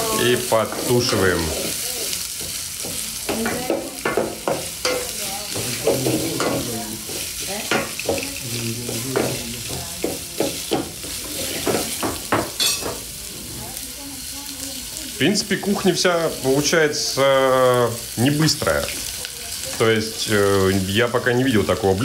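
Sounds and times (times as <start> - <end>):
onion frying in hot oil: 0.0 - 22.0.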